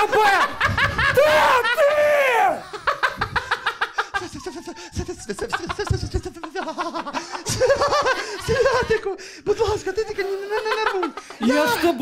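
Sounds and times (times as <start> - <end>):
laughter: 0.0 - 11.8
man sobbing and wailing: 0.0 - 12.0.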